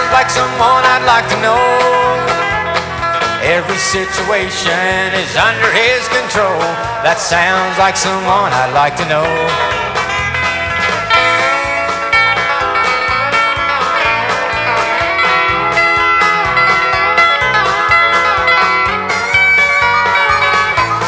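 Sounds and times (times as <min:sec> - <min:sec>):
bass and drum beat: 0:00.0 - 0:21.0
lead guitar with bending notes: 0:00.0 - 0:21.0.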